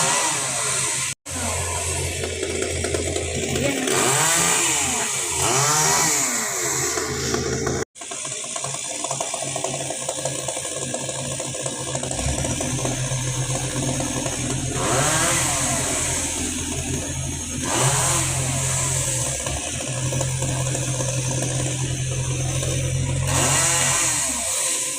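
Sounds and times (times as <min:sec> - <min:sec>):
chainsaw engine revving: 0:00.0 - 0:24.9.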